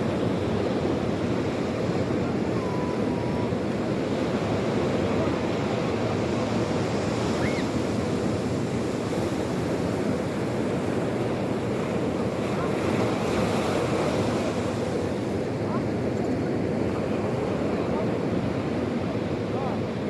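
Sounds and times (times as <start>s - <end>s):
sea surf washing: 0.0s - 20.0s.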